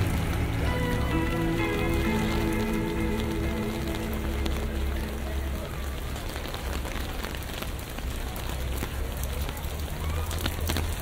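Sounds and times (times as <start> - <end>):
low traffic rumble: 0.0 - 11.0
rain on a street: 0.0 - 11.0
raindrops tapping: 0.0 - 11.0.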